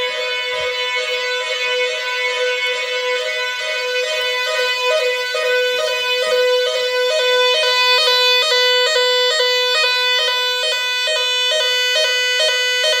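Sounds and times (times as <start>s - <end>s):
two-tone fire alarm siren: 0.0s - 13.0s.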